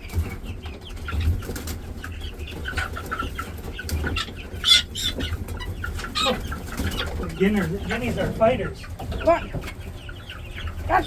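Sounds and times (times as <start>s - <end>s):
guinea fowl calling: 2.0s - 11.0s.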